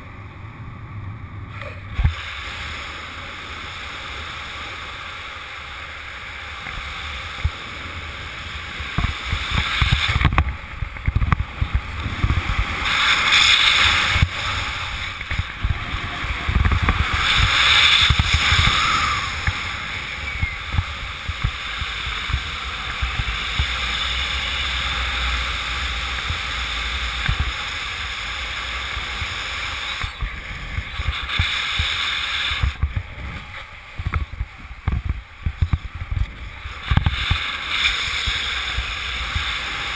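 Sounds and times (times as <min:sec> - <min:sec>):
wind buffeting microphone: 0:05.8 - 0:39.9.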